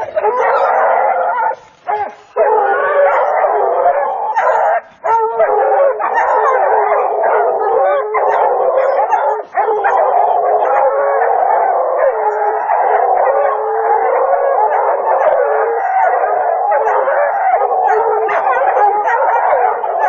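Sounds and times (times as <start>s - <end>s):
hounds baying and howling: 0.0s - 20.0s.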